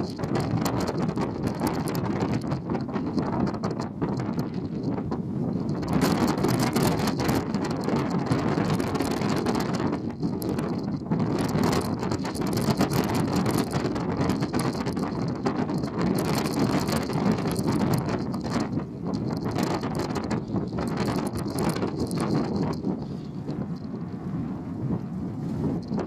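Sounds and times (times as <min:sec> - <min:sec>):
steady low rumble: 0:00.0 - 0:26.0
wind buffeting microphone: 0:00.0 - 0:26.0.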